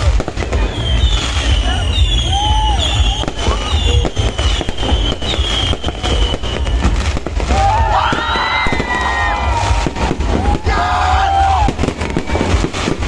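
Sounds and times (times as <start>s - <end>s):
fireworks cracking and banging: 0.0s - 13.0s
fireworks whistling: 0.0s - 13.0s.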